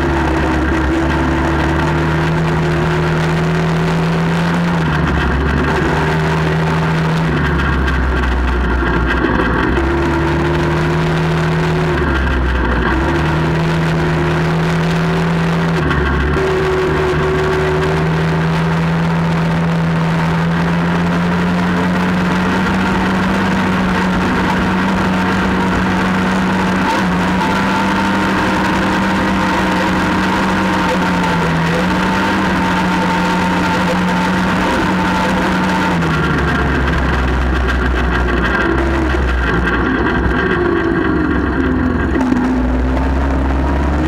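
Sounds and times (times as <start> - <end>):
all-terrain vehicle engine running: 0.0 - 44.0.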